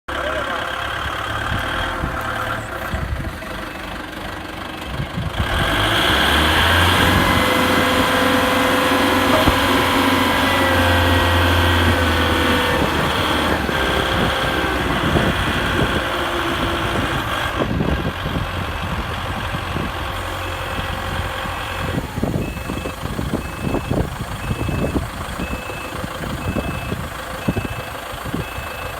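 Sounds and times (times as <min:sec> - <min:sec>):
diesel forklift engine: 0:00.1 - 0:28.9
engine whine: 0:00.1 - 0:28.9.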